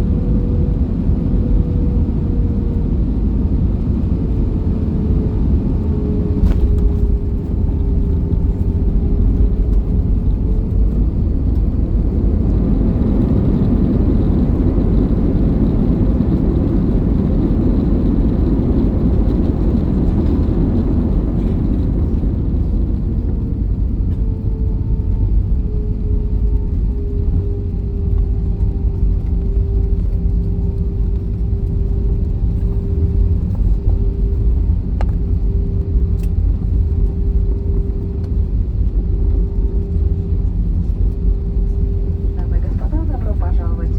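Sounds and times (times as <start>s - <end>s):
aircraft low rumble with whine: 0.0s - 43.9s.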